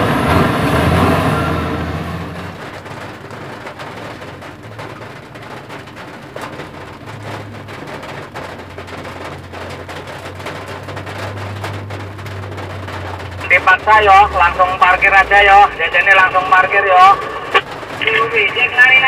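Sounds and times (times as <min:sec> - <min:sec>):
rain tapping on vehicle roof: 0:01.9 - 0:19.0.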